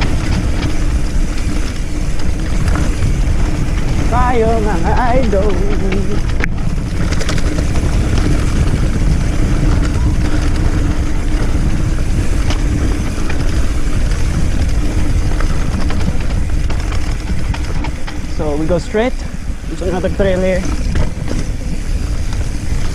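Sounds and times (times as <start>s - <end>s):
bike rattling and clicking: 0.0s - 22.9s
bike tyres rumbling: 0.0s - 22.9s
wind on microphone: 0.0s - 22.9s.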